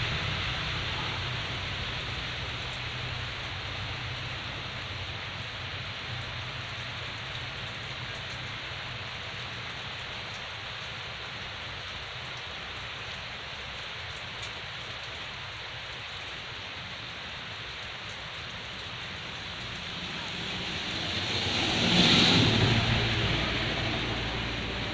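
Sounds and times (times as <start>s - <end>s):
rain hiss: 0.0s - 24.9s.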